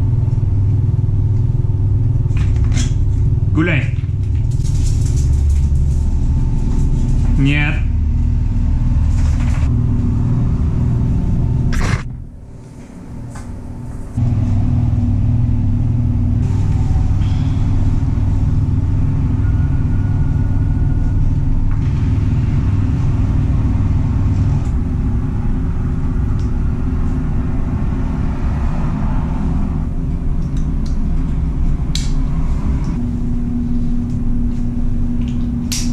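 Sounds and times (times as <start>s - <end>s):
machinery rumble and hum: 0.0s - 35.9s.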